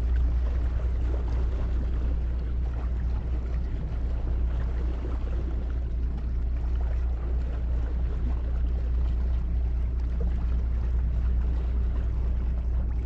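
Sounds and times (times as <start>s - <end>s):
boat motor low drone: 0.0s - 13.0s.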